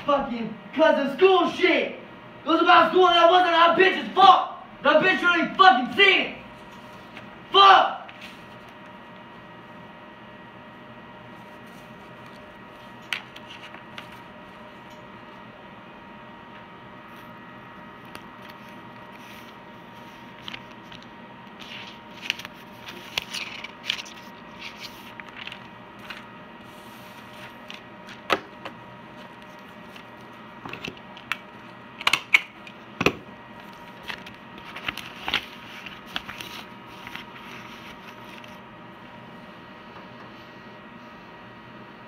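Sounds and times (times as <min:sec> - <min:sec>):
background hiss and hum: 0:00.0 - 0:42.0.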